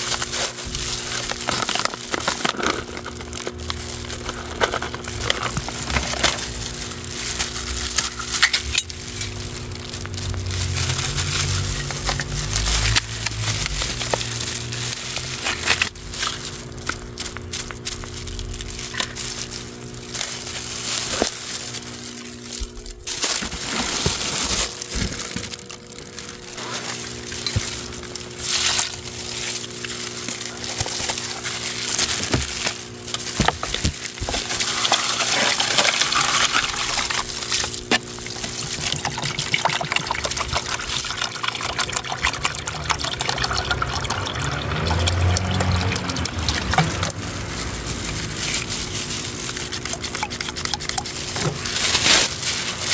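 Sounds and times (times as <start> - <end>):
plastic gloves and bags crinkling: 0.0 - 52.9
water pouring into plastic tub: 0.0 - 52.9.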